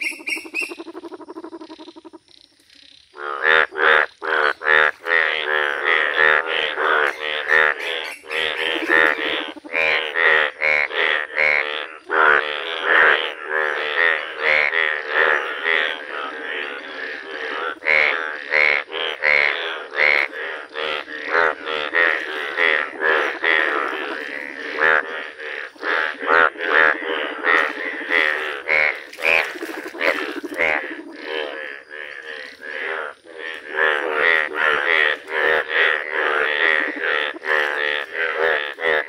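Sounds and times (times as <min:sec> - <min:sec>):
chorus of frogs croaking: 0:00.0 - 0:39.0.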